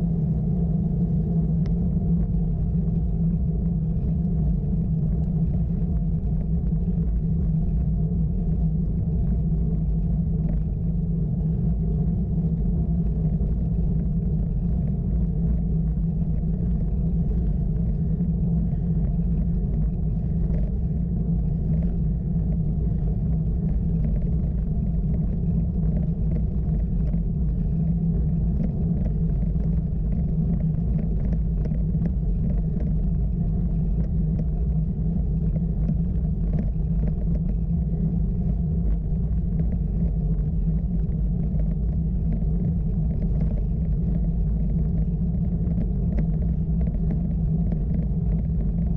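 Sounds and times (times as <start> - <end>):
faint ticks from road: 0.0 - 48.9
road and wind rumble: 0.0 - 48.9.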